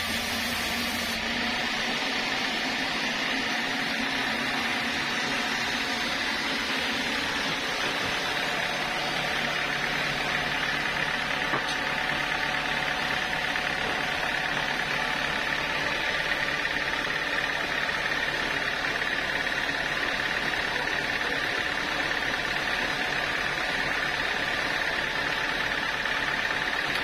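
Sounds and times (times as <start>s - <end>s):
sawmill machinery drone: 0.0s - 27.0s.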